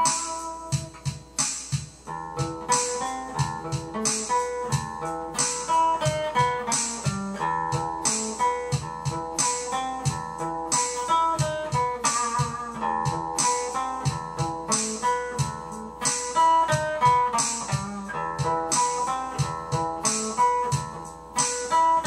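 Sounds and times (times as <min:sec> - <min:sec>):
plucked guitar music: 0:00.0 - 0:22.0.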